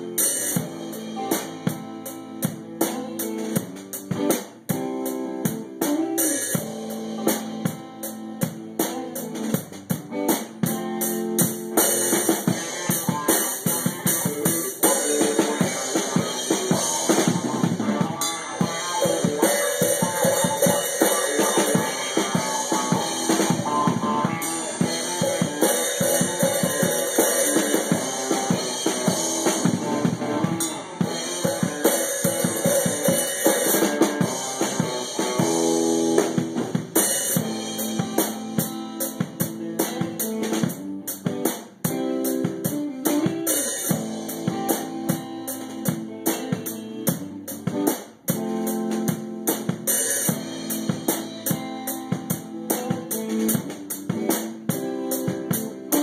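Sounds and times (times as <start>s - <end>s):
drum kit playing: 0.0s - 56.0s
guitar music: 0.0s - 56.0s.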